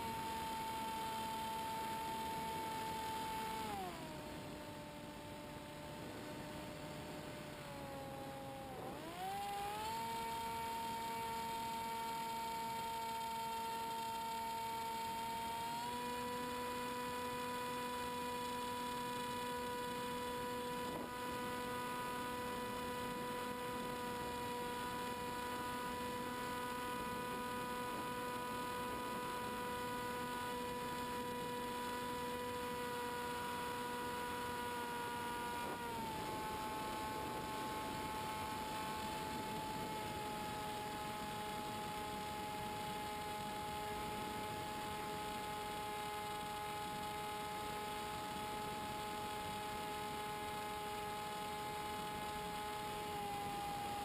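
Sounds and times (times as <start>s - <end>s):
model plane motor whining: 0.0s - 54.0s.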